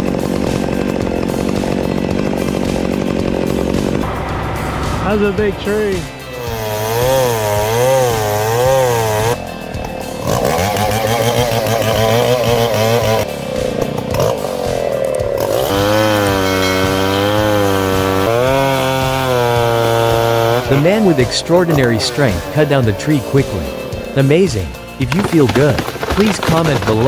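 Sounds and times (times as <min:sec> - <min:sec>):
chainsaw cutting into tree: 0:00.0 - 0:27.0.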